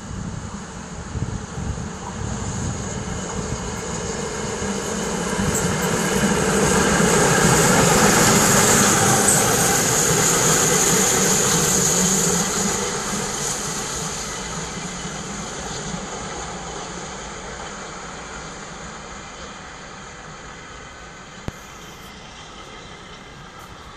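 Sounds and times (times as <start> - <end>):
steam hiss: 0.0 - 23.9
train wheels rumbling on rail: 0.0 - 23.9.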